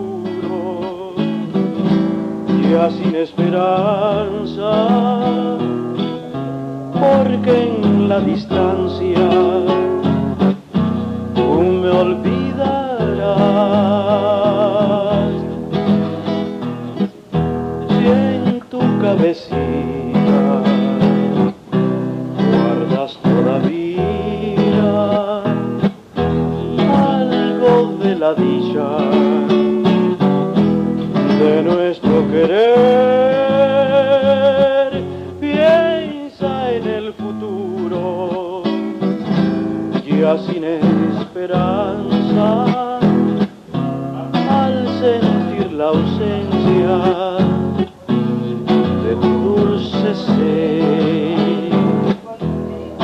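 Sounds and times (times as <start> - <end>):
acoustic guitar music: 0.0 - 53.0.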